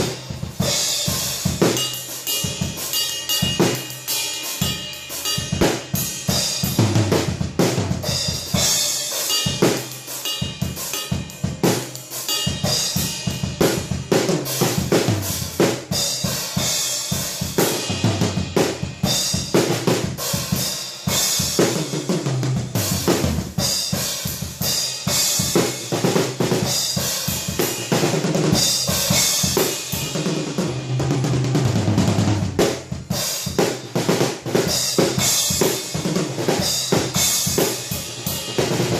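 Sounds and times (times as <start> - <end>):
drum kit playing fast: 0.0 - 38.9.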